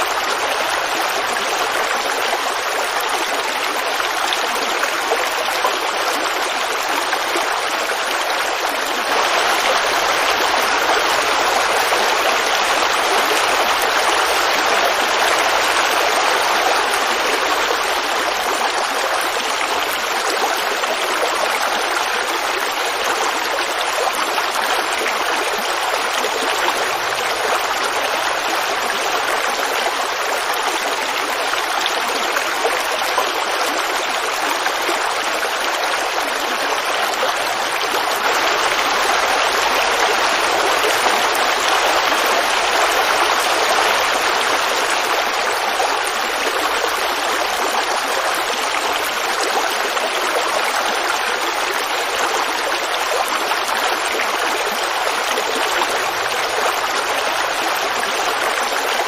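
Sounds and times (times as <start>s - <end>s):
creek babbling over stones: 0.0s - 59.0s.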